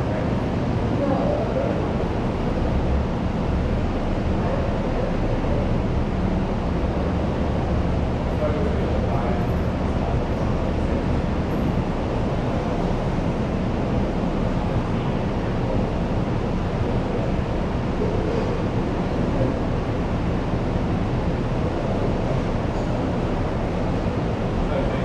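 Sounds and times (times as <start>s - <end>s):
voices chattering in a canteen: 0.0s - 25.0s.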